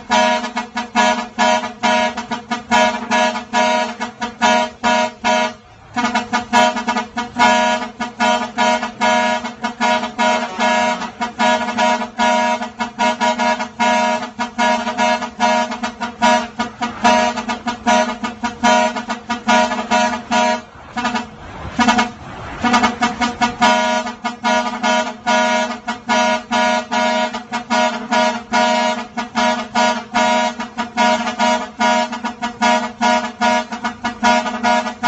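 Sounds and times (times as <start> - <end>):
musical truck air horn: 0.0 - 35.0.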